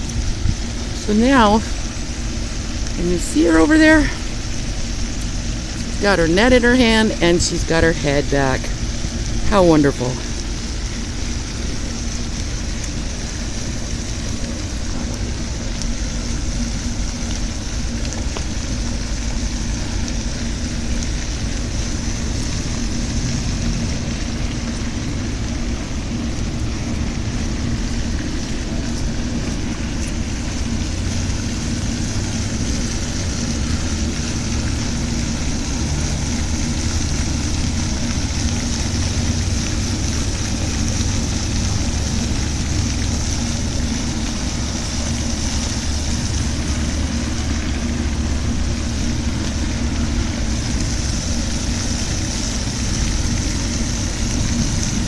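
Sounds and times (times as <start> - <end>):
fountain spray hissing: 0.0 - 55.0
low rumble: 0.0 - 55.0.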